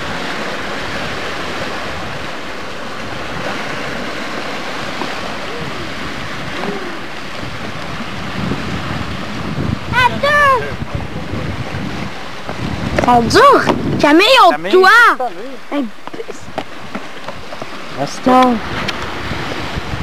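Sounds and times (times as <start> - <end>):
waves on open water: 0.0 - 20.0
wind on microphone: 0.0 - 20.0.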